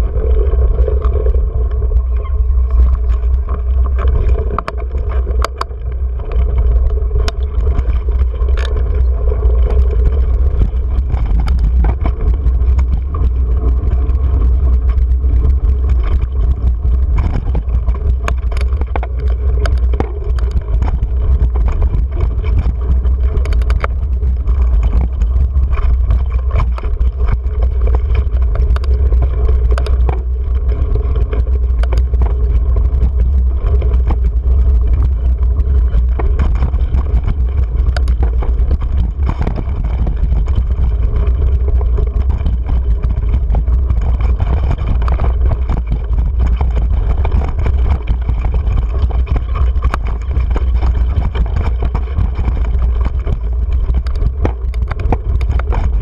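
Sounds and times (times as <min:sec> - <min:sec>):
bike rattling over stones: 0:00.0 - 0:56.0
wind buffeting microphone: 0:00.0 - 0:56.0.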